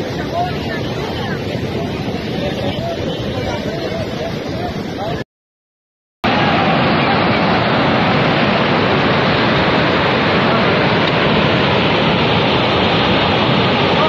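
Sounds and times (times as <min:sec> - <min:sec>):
floodwater rushing: 0:00.0 - 0:05.2, 0:06.3 - 0:14.0.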